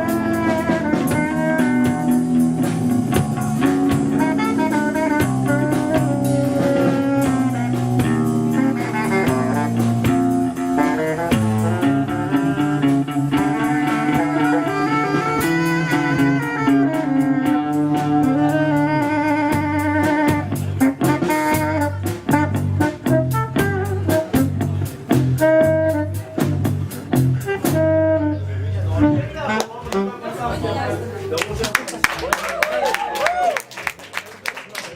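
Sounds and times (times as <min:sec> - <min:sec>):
saxophone or brass lines: 0:00.0 - 0:30.9
live band playing: 0:00.0 - 0:34.9.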